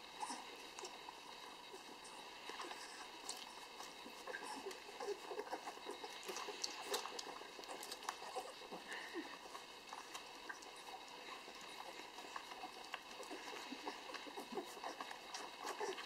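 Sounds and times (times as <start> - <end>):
puppies suckling: 0.0 - 16.0
dog crunching dry kibble: 2.4 - 16.0.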